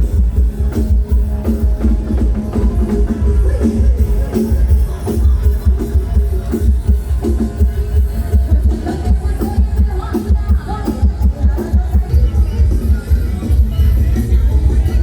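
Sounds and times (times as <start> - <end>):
loud amplified music with heavy bass: 0.0 - 15.0.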